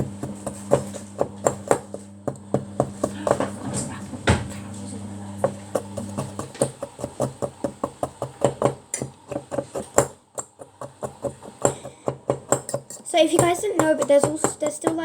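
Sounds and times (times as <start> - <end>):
fork tapping against mug: 0.0 - 3.5, 5.4 - 15.0
fork mashing cookies in a mug: 0.0 - 15.0.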